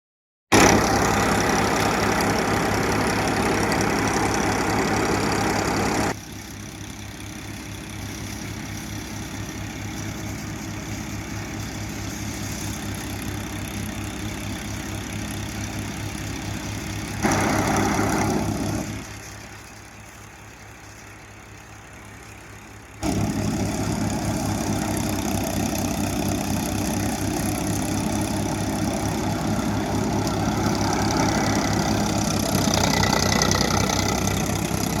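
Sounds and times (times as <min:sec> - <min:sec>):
tractor diesel engine pulsing: 0:00.5 - 0:35.0.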